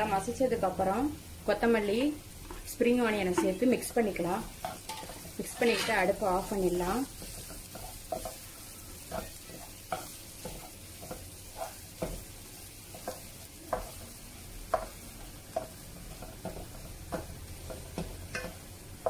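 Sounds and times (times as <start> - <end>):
wooden spatula scraping wok: 1.7 - 19.0.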